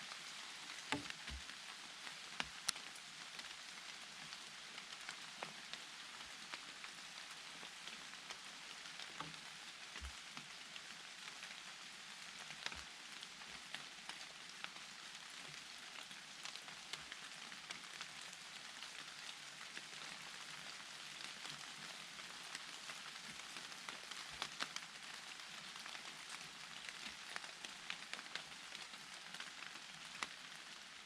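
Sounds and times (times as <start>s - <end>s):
raindrops ticking close by: 0.0s - 31.0s
steady rain hiss: 0.0s - 31.0s.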